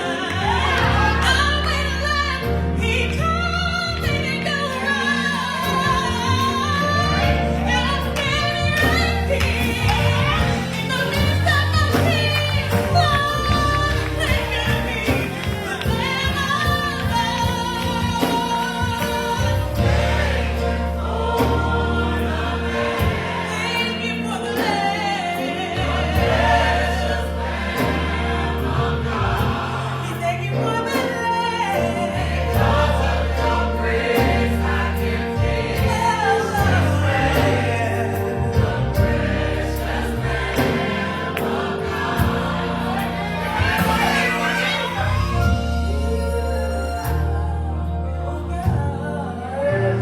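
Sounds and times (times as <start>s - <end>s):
band playing: 0.0s - 50.0s
gospel choir singing: 0.0s - 50.0s.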